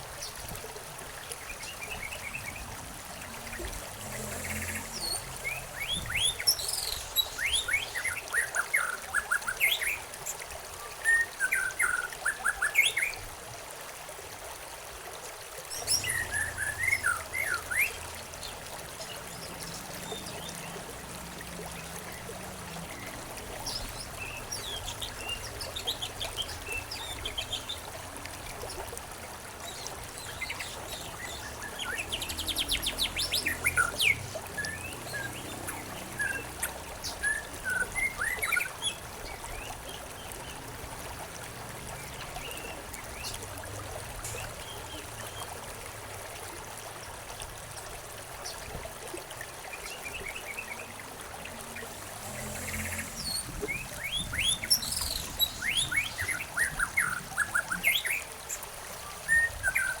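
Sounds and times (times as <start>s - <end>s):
stream trickling: 0.0s - 60.0s
songbirds chirping and trilling: 1.3s - 10.1s, 15.7s - 28.9s, 29.6s - 45.6s, 49.6s - 60.0s.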